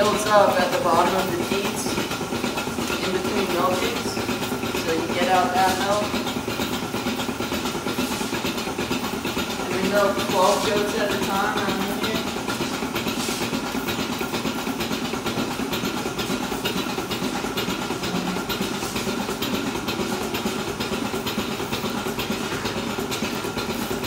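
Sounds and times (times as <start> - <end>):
milking machine hum and hiss: 0.0 - 24.0.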